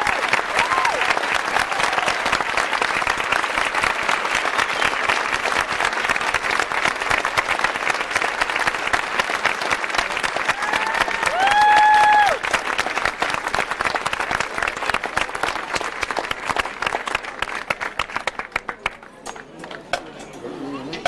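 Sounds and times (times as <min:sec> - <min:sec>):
stadium crowd applauding: 0:00.0 - 0:21.0.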